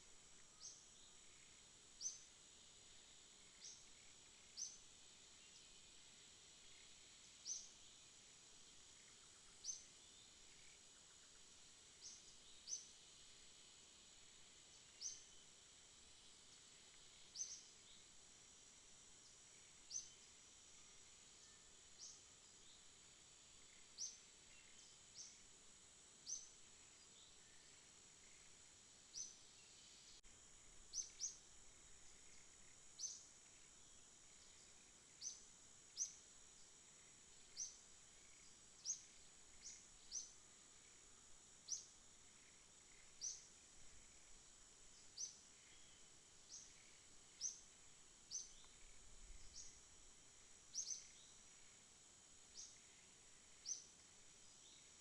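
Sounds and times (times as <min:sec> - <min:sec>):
insect trill: 0:00.0 - 0:55.0
sharp high insect chirps: 0:00.1 - 0:55.0.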